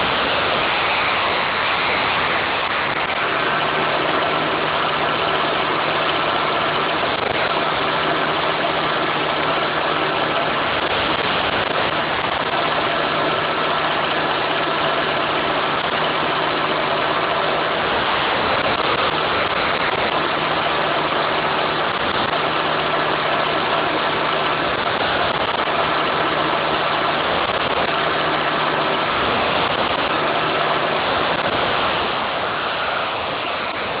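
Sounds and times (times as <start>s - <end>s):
car engine idling: 0.0s - 34.0s
radiator cooling fan: 0.0s - 34.0s.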